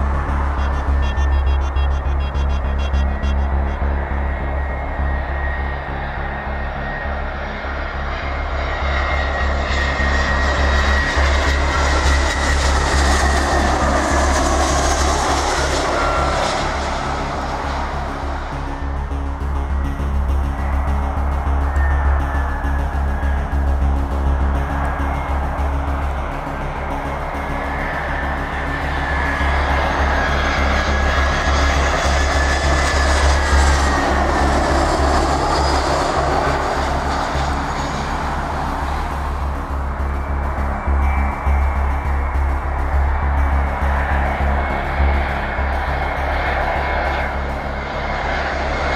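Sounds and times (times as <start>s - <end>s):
high fan whine: 0.0s - 48.9s
jet engines roaring overhead: 0.0s - 48.9s
low pulsing rumble: 0.0s - 48.9s.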